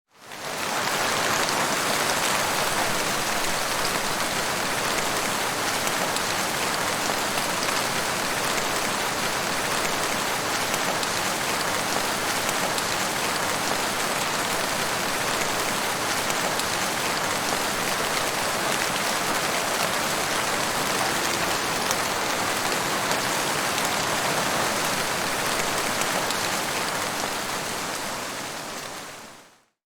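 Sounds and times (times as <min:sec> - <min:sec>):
heavy rain on hard surface: 0:00.1 - 0:29.8.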